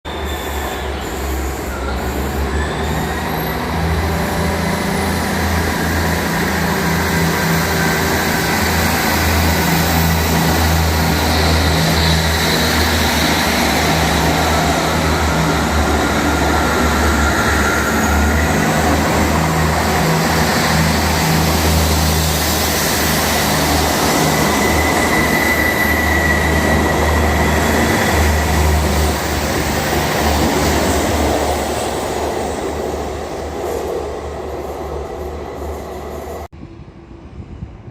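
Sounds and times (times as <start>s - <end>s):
train rumbling: 0.1s - 37.9s.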